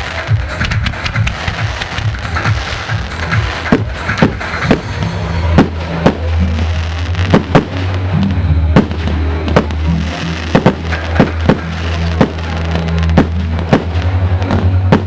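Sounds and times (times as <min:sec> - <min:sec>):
fireworks bursting: 0:00.0 - 0:15.0
music with low notes: 0:00.0 - 0:15.0.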